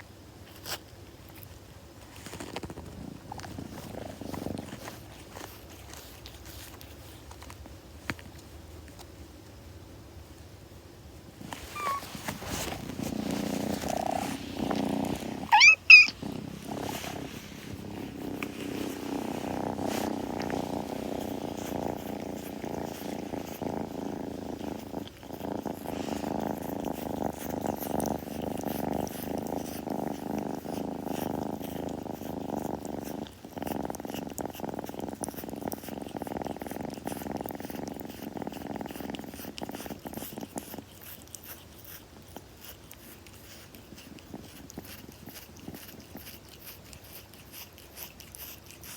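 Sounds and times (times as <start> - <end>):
kitten purring: 0.0 - 9.4, 11.2 - 48.9.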